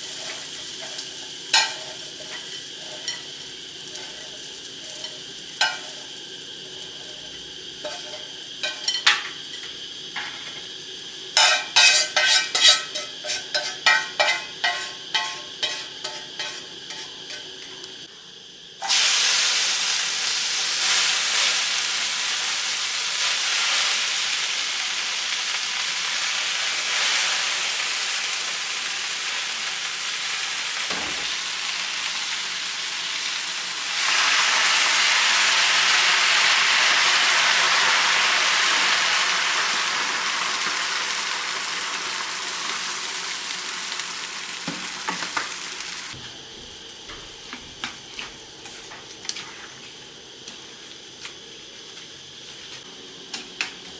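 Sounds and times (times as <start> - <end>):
food sizzling in hot oil: 0.0 - 46.2.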